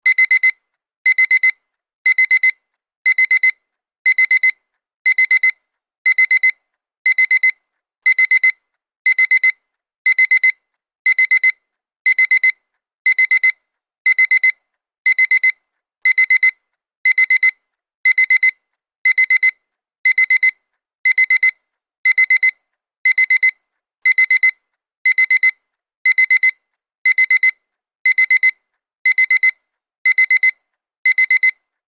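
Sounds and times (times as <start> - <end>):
alarm clock double beep: 0.1 - 31.6.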